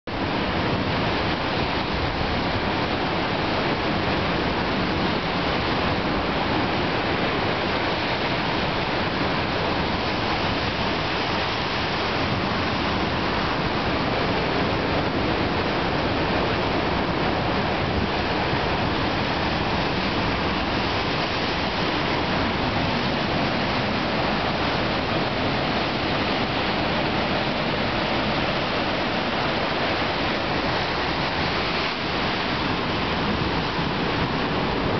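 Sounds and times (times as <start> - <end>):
sea surf breaking on rocks: 0.1 - 34.9.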